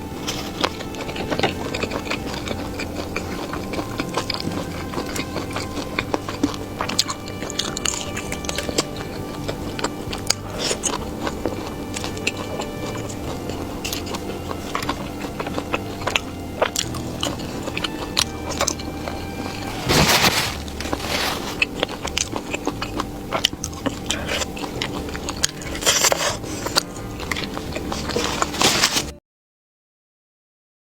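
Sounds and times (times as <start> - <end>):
loud crunching bites: 0.0 - 29.2
wet chewing with crackles: 0.0 - 29.2.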